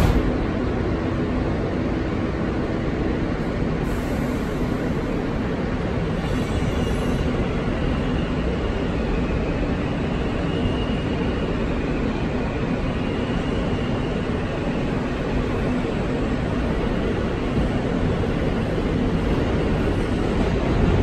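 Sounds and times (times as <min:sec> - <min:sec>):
subway wheels rumbling on rails: 0:00.0 - 0:21.0.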